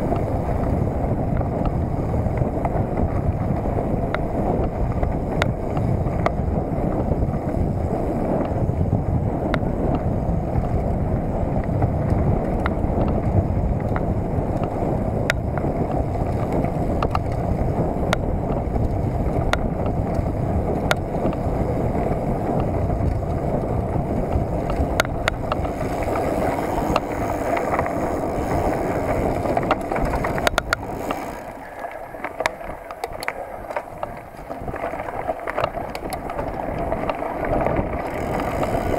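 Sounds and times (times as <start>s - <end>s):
bike clicks and rattles: 0.0s - 38.9s
bike tyre noise: 0.0s - 38.9s
wind on microphone: 0.0s - 38.9s.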